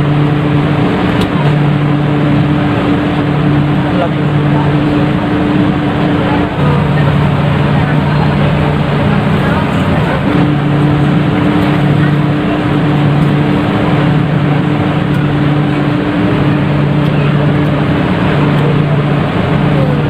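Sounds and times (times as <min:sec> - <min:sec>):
dense rushing noise: 0:00.0 - 0:20.0
ship engines droning: 0:00.0 - 0:20.0.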